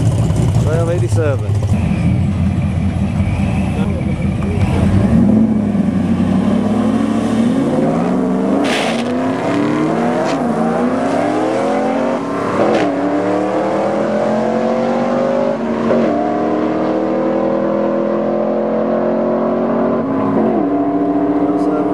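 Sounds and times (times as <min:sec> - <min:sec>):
truck engine at full throttle: 0:00.0 - 0:21.9.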